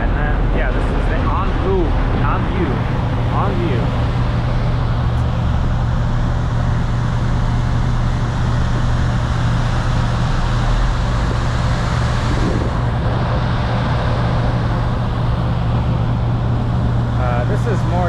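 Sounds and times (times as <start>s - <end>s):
ferry engines droning: 0.0s - 18.0s.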